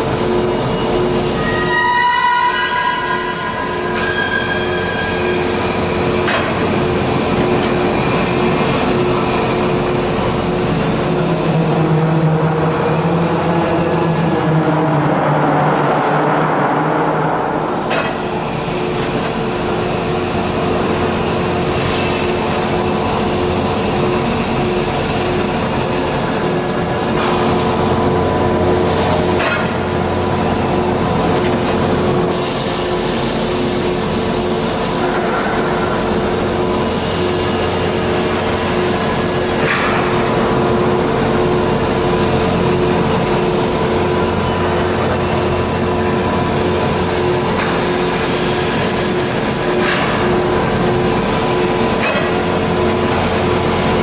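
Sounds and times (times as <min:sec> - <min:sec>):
mechanical hum with pulsing tone: 0:00.0 - 0:54.0.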